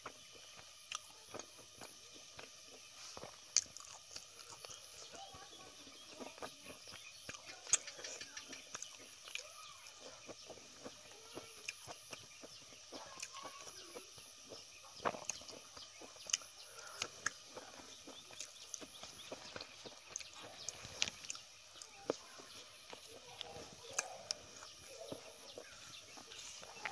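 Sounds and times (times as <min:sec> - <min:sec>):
fingers picking through rice: 0:00.0 - 0:26.9
wet mouth clicks and chewing: 0:00.0 - 0:26.9.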